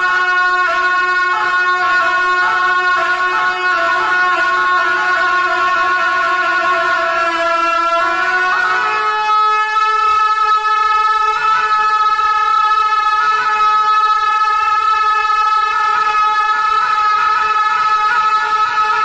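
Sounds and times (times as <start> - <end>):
double-reed oboes playing held notes: 0.0 - 19.0.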